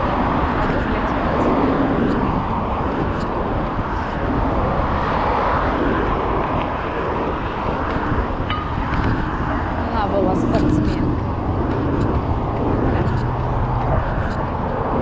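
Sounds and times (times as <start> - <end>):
car traffic: 0.0 - 15.0
road noise: 0.0 - 15.0
wind rushing: 0.0 - 15.0.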